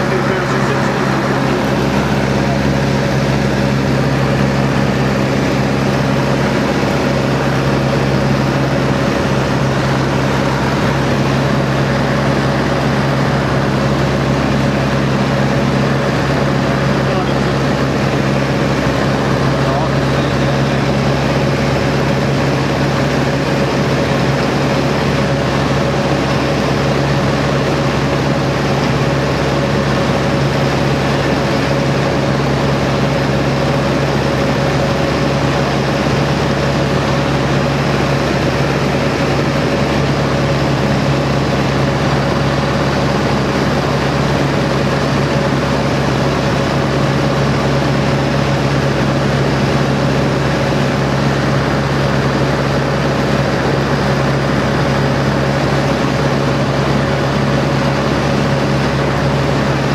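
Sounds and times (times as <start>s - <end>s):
aircraft engine and propeller: 0.0s - 59.9s
rush of airflow: 0.0s - 59.9s.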